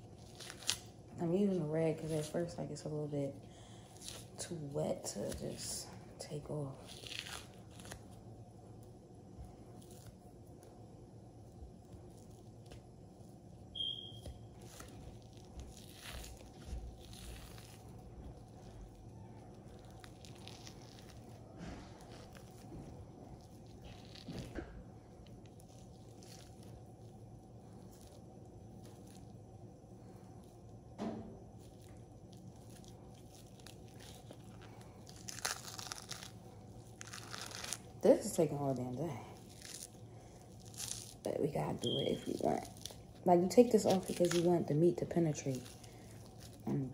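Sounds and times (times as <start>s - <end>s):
membrane tearing and rustling: 0.0s - 1.1s, 3.8s - 8.3s, 11.8s - 29.4s, 31.4s - 46.9s.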